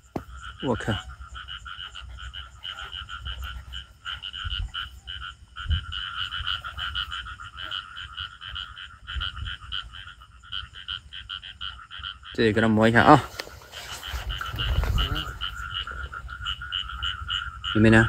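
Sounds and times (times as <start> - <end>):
frogs trilling: 0.0 - 18.0.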